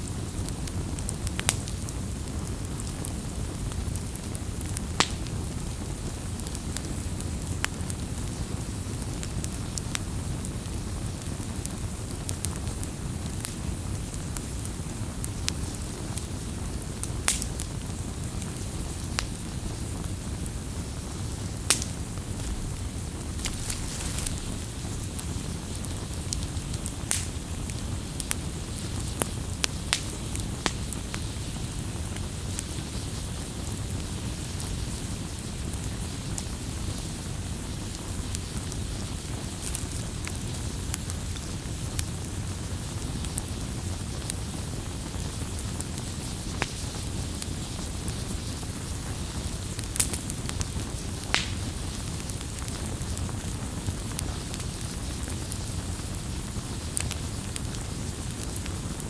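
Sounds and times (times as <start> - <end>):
campfire crackling and popping: 0.0 - 59.0
low rush of flame: 0.0 - 59.0.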